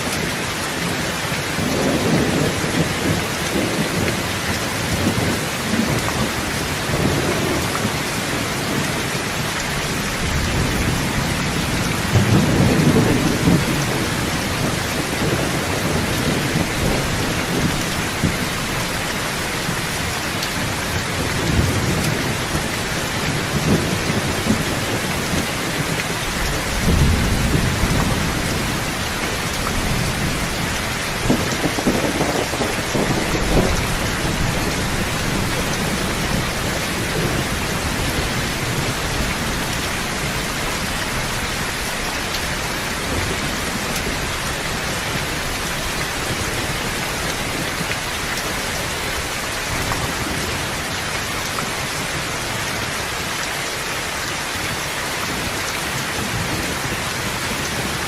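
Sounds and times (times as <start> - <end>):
thunder rumbling: 0.0 - 52.3
heavy rain falling: 0.0 - 58.0.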